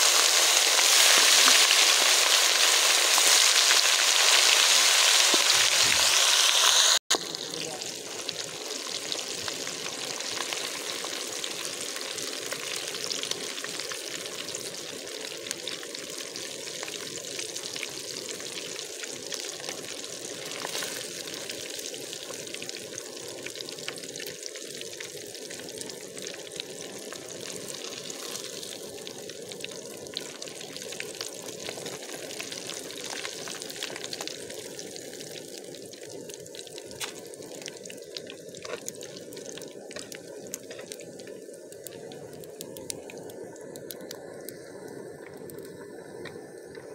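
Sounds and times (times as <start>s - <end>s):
fish deep-frying in bubbling oil: 0.0s - 46.9s.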